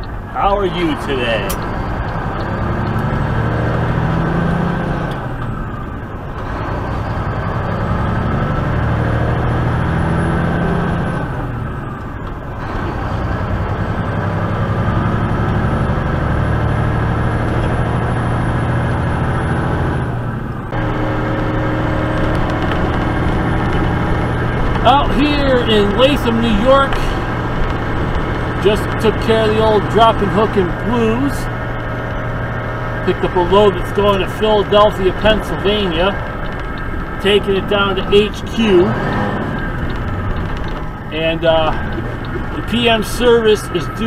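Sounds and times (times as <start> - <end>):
road noise: 0.0 - 44.0
truck engine inside cab: 0.0 - 44.0.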